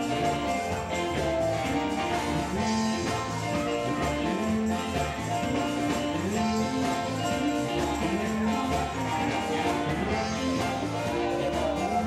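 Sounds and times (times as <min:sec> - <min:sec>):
gospel band playing: 0:00.0 - 0:12.0
tambourine jingling: 0:00.0 - 0:12.0.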